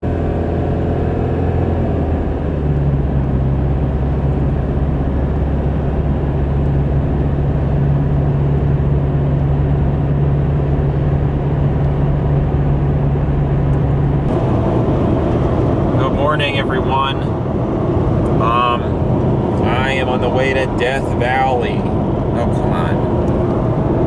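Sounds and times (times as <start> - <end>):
car road and engine noise: 0.0 - 24.0
low hum: 1.7 - 24.0.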